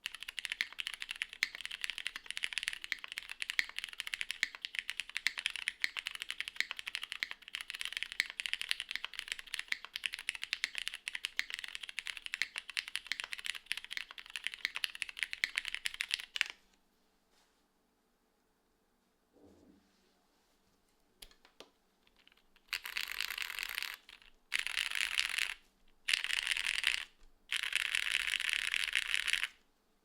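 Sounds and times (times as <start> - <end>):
fast typing on mechanical keyboard: 0.0 - 16.6, 22.2 - 29.6.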